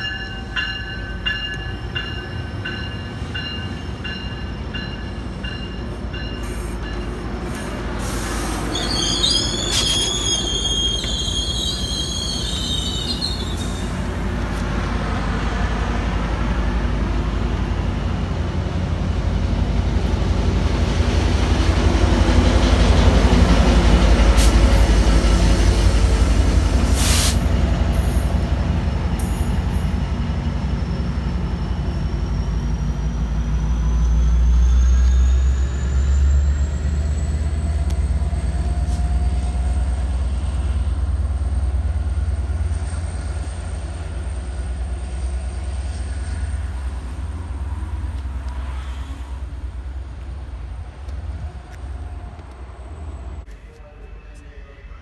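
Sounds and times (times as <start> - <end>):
diesel locomotive passing: 0.0 - 55.0
train coaches rumbling over rails: 0.0 - 55.0.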